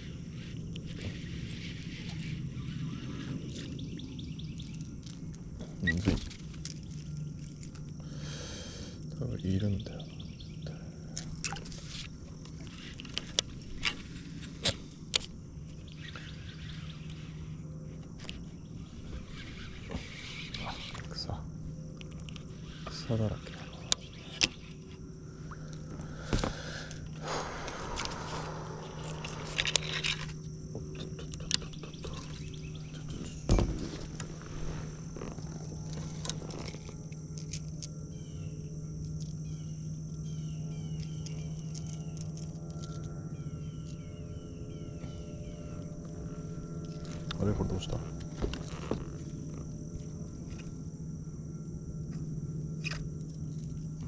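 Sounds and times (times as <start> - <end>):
faint outdoor background: 0.0 - 54.0
insects chirring: 0.0 - 54.0
steady low hum: 0.0 - 54.0.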